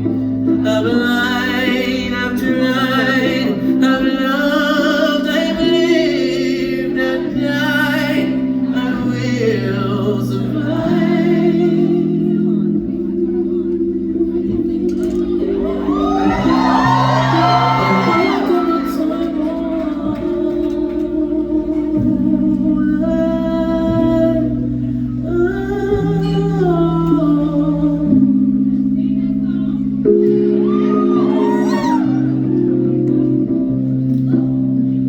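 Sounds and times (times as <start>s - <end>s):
live band playing slow chords: 0.0s - 35.0s.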